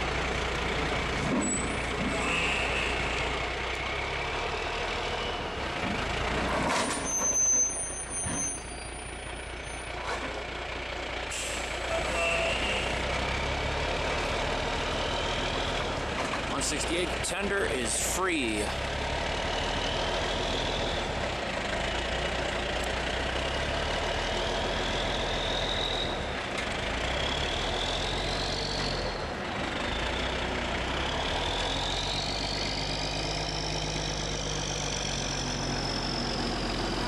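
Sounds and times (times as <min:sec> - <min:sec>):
diesel truck engine humming: 0:00.0 - 0:37.0.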